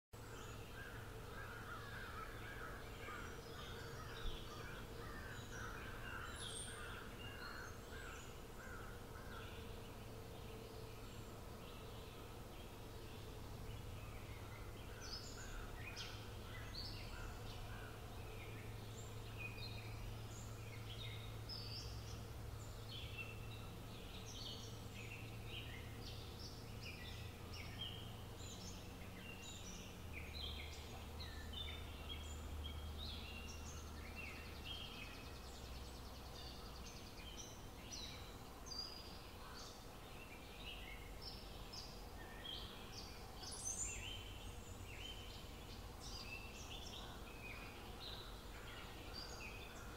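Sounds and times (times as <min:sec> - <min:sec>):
songbirds chirping and trilling: 0:00.2 - 0:49.9.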